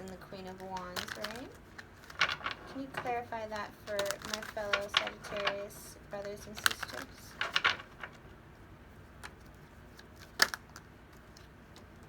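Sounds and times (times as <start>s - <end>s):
cards shuffled and tapped: 0.0s - 8.4s, 9.2s - 12.0s.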